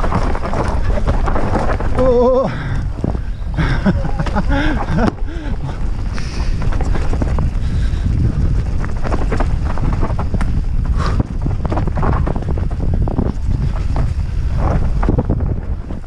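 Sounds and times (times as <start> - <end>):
bike knocking and rattling: 0.0 - 16.0
wind buffeting microphone: 0.0 - 16.0.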